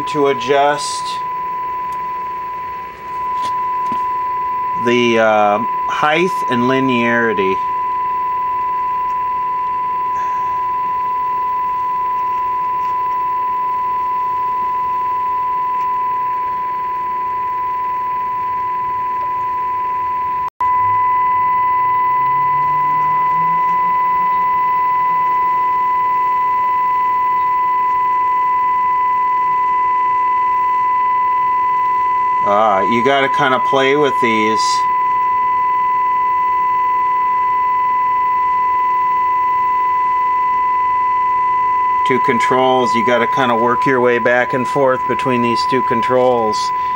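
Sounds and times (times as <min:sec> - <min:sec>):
steady audio test tone: 0:00.0 - 0:46.9.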